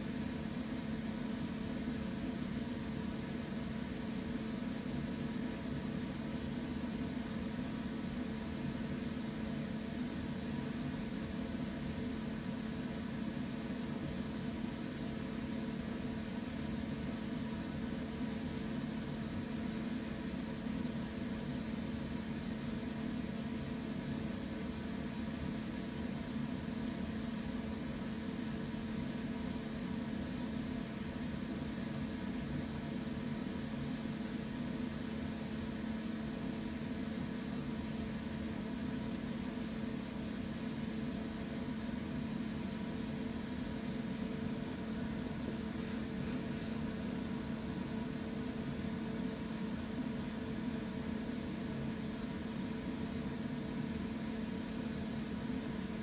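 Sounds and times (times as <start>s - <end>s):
electric fan humming: 0.0s - 56.0s.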